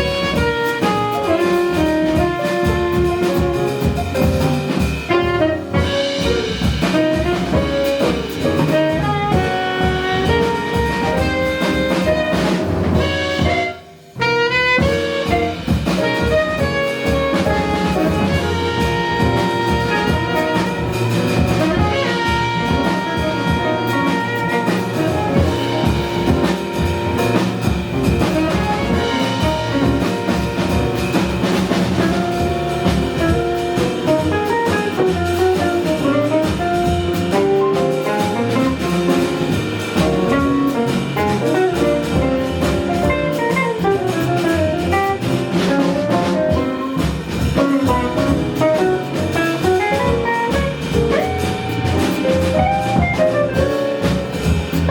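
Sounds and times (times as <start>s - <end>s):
small jazz band playing: 0.0s - 54.9s.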